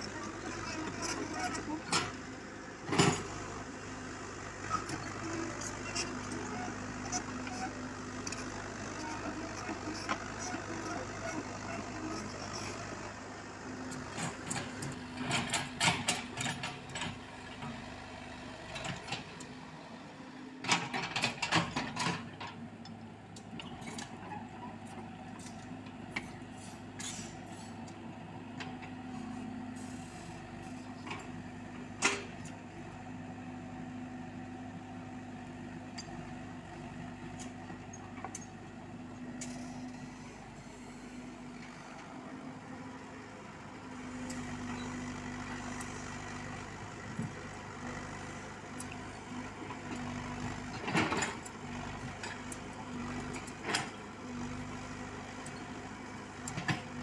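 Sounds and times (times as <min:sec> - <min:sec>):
diesel excavator engine running: 0:00.0 - 0:57.0.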